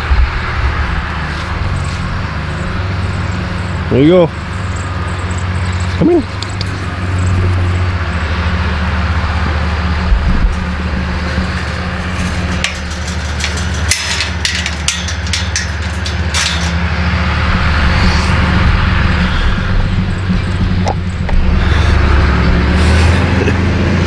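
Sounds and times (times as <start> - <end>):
low motor hum: 0.0 - 24.0
sharp clicks and rattles: 1.6 - 22.6.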